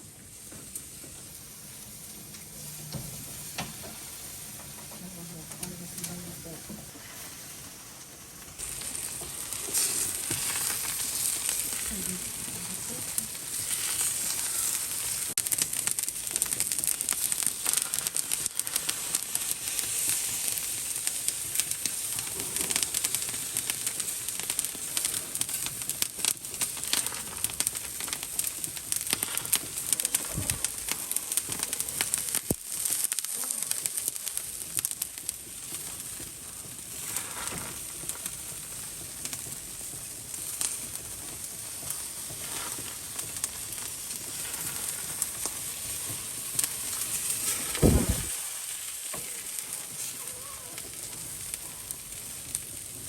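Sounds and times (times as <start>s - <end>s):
meat sizzling on a grill: 0.0s - 53.0s
fat crackling pops: 0.3s - 7.2s, 8.0s - 53.0s.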